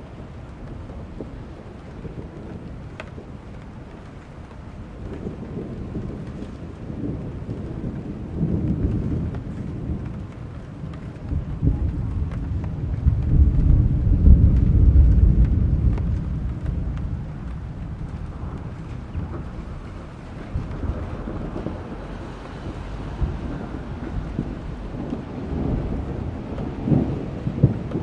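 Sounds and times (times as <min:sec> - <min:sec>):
deep roll of thunder: 0:00.0 - 0:28.0
steady rain: 0:00.0 - 0:28.0.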